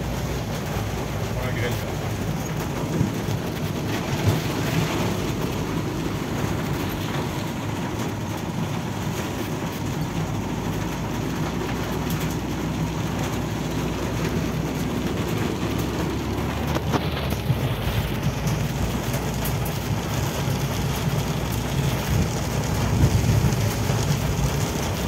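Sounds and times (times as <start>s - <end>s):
hail and rain pelting car roof: 0.0s - 25.0s.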